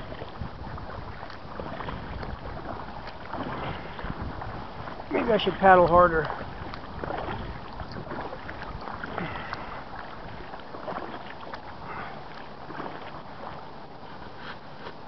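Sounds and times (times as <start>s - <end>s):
paddle strokes splashing water: 0.0s - 15.0s
water lapping at hull: 0.0s - 15.0s.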